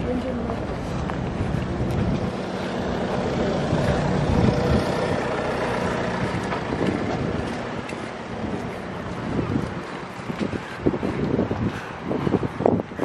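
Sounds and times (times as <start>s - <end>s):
vehicle engine running: 0.0s - 11.7s
wind on microphone: 0.0s - 13.0s.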